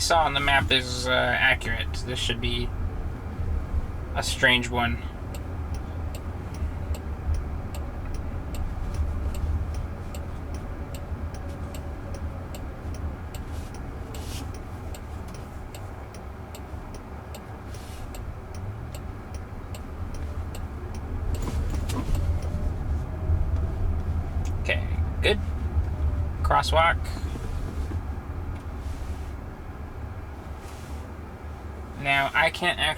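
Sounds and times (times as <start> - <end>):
road rumble inside car: 0.0 - 32.9
turn signal ticking: 0.0 - 32.9.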